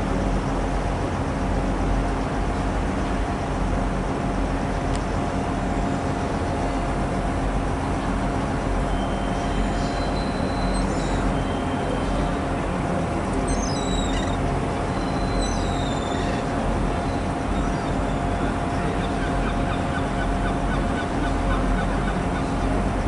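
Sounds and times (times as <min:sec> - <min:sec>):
diesel train rumbling: 0:00.0 - 0:23.0.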